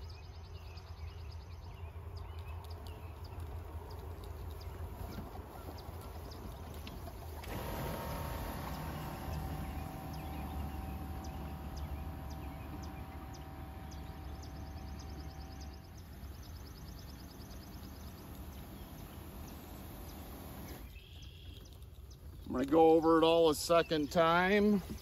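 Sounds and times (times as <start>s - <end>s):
steady low hum: 0.0s - 21.3s
birds chirping: 0.0s - 25.0s.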